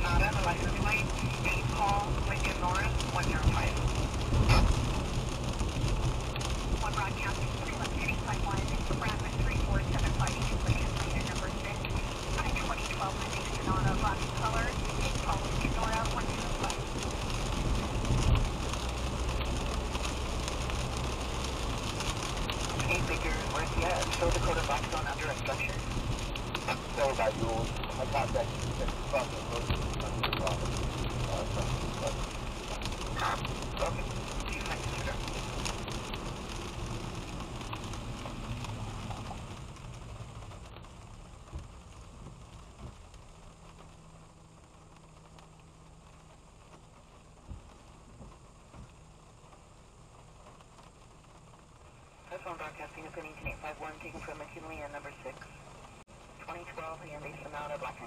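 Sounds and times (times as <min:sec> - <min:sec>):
low road rumble: 0:00.0 - 0:58.0
rain hitting windshield: 0:00.0 - 0:58.0
tyres on wet road: 0:00.0 - 0:58.0.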